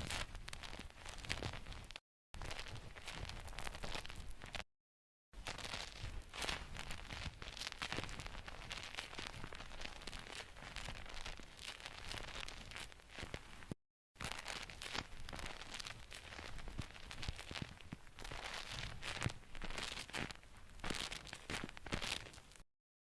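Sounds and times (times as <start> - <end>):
crinkling and scratchy rustling: 0.0 - 4.7, 5.4 - 22.6.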